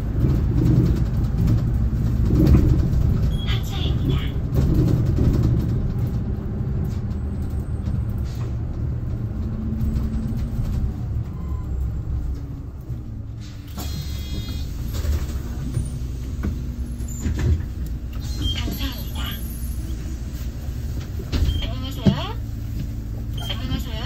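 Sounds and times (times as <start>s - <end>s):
bus low rumble: 0.0s - 24.0s.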